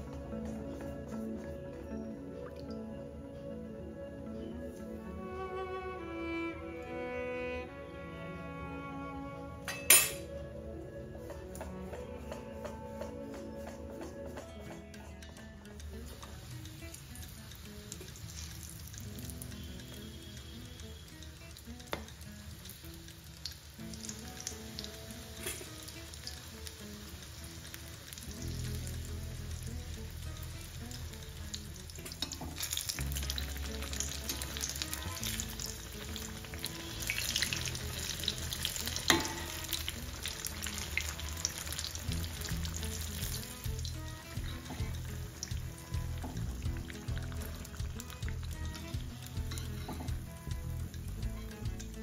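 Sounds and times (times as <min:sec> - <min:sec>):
deep-frying sizzle and crackle: 0:00.0 - 0:05.3, 0:09.6 - 0:52.0.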